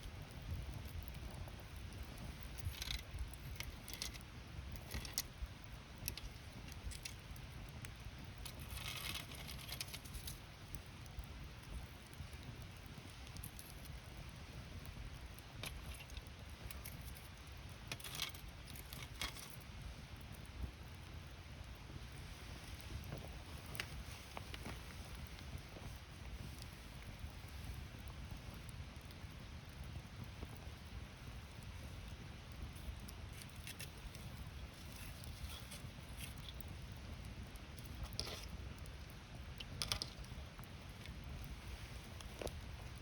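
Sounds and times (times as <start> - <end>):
campfire crackling: 0.0 - 43.0
fire low rumble: 0.0 - 43.0.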